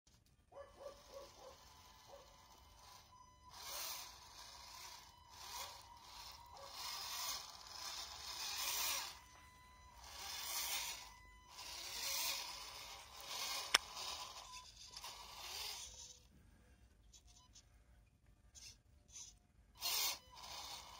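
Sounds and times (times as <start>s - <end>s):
small electric motor whining: 0.7s - 16.3s, 18.5s - 20.9s.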